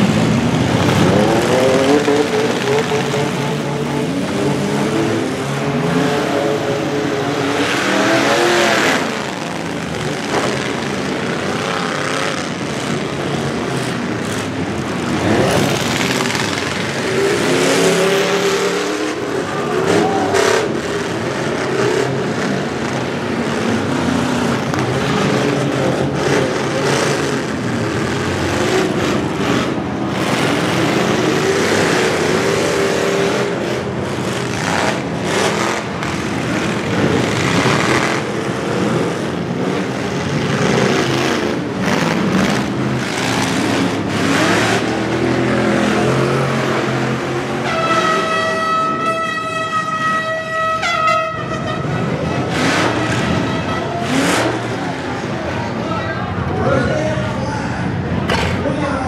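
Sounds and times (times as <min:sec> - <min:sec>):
truck engines revving hard: 0:00.0 - 0:59.0
vehicles ramming bangs: 0:00.0 - 0:59.0.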